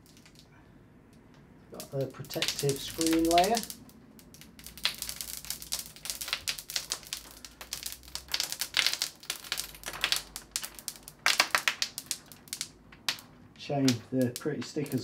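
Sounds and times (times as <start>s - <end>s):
plastic film peeling and crinkling: 0.0s - 0.5s, 1.7s - 15.0s.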